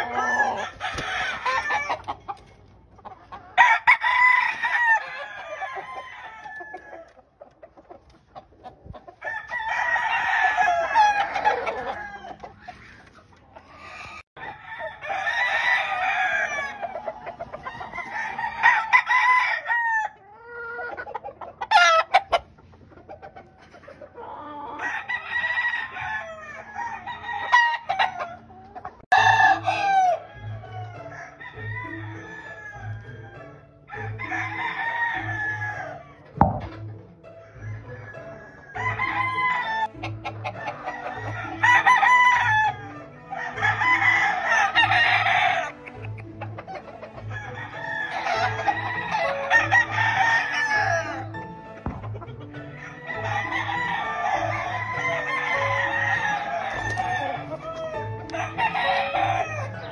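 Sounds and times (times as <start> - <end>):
roosters crowing: 0.0 - 7.4, 8.9 - 22.6, 23.3 - 59.9.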